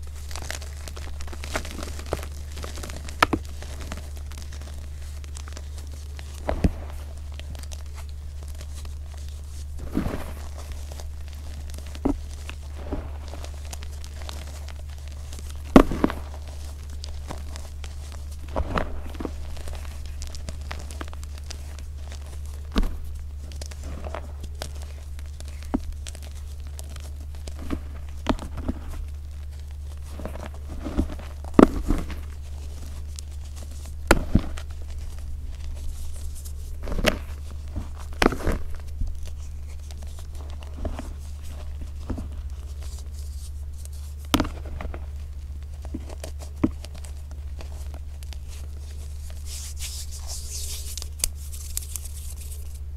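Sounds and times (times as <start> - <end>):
hands crunching chalk powder: 0.0 - 52.9
low hum: 0.0 - 52.9.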